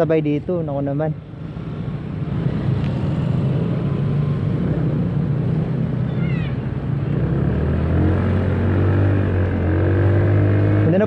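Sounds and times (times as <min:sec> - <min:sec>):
wind and road rush: 0:00.0 - 0:11.0.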